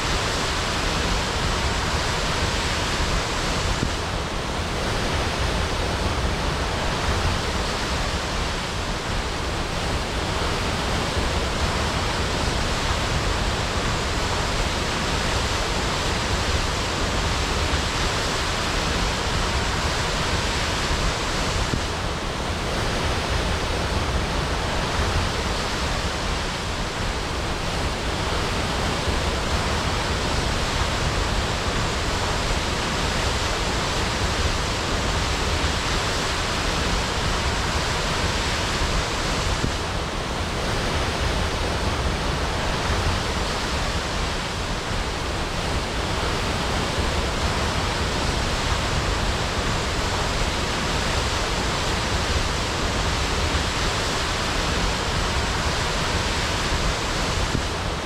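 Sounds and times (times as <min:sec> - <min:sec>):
waterfall crashing: 0:00.0 - 0:58.0.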